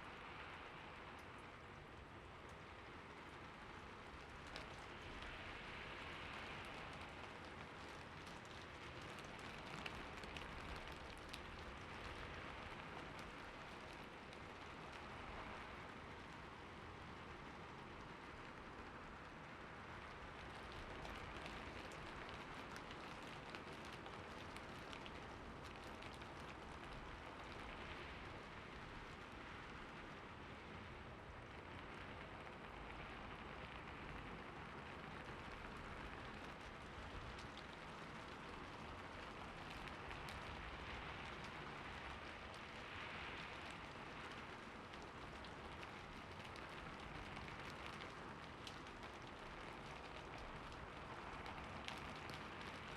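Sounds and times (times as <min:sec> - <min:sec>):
rain pattering: 0:00.0 - 0:52.9.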